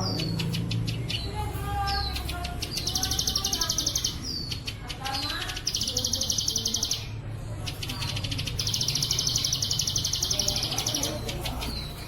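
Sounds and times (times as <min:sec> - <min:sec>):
rapid buzzing bird trill: 0:00.0 - 0:12.0.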